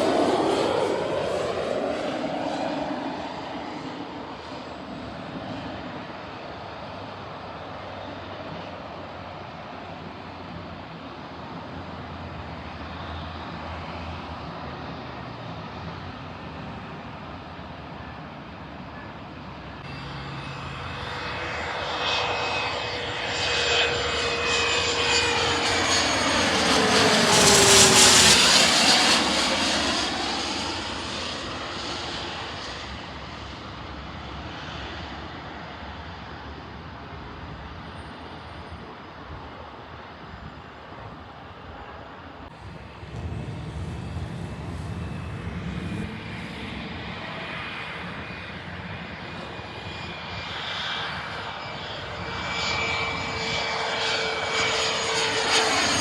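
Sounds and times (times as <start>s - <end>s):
airplane passing overhead: 0.0s - 56.0s.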